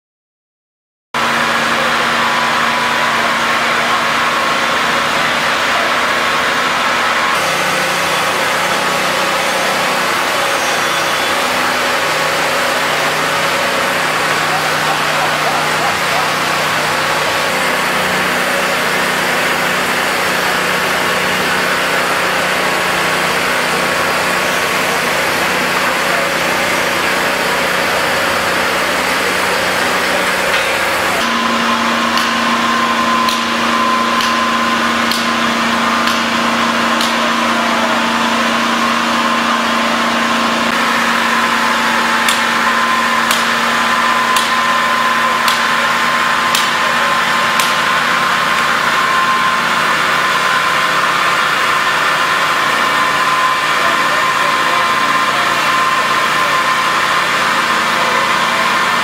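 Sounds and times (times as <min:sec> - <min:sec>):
heavy machinery engine running: 0:01.2 - 0:59.0.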